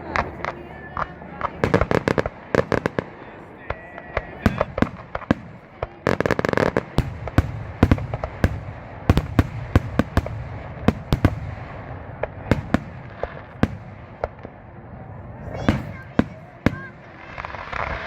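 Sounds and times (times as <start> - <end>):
crackling pops: 0.0 - 14.6
fireworks bangs: 0.0 - 18.0.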